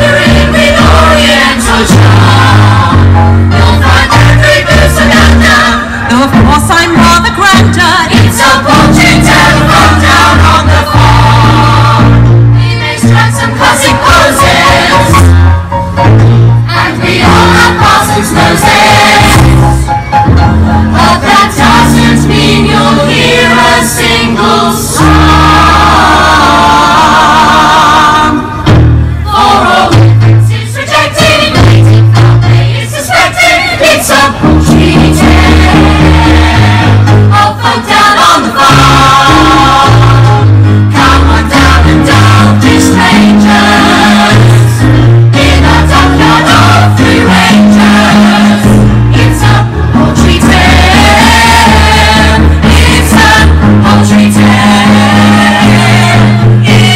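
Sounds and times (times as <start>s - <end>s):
chorus singing: 0.0s - 56.9s
musical accompaniment with bass line: 0.0s - 56.9s.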